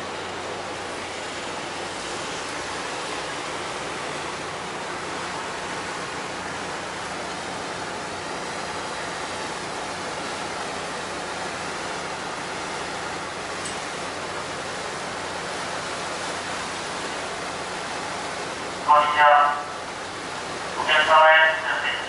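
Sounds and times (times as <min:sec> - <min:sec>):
low engine hum: 0:00.0 - 0:22.0
propeller wash rushing: 0:00.0 - 0:22.0.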